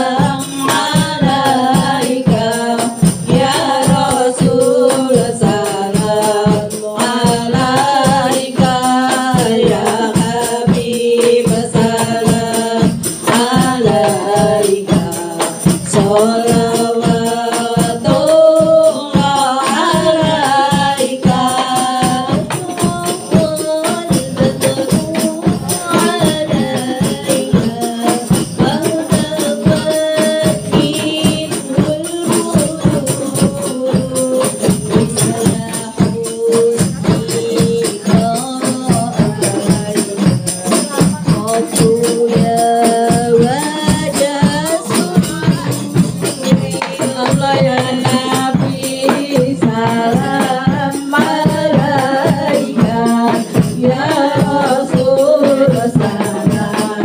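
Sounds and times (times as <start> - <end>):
hand-struck frame drums: 0.0 - 57.0
women's group singing: 0.0 - 57.0.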